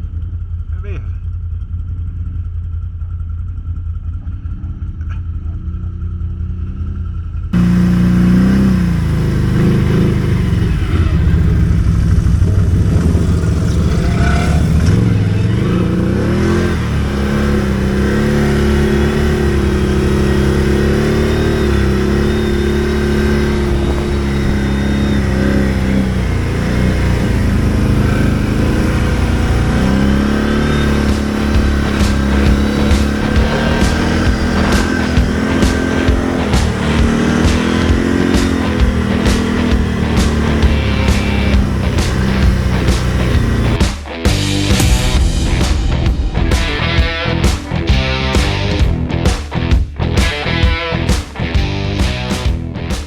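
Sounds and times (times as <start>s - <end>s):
atv engine revving: 0.0s - 44.9s, 45.7s - 53.0s.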